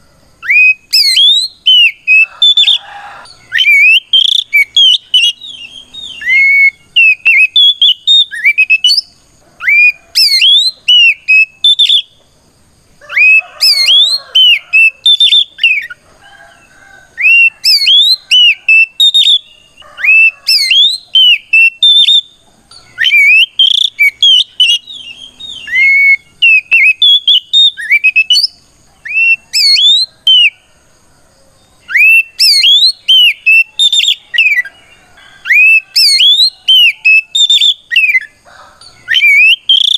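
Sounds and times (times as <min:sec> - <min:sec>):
songbird whistling song: 0:00.0 - 0:12.3, 0:13.0 - 0:30.7, 0:31.6 - 0:39.9.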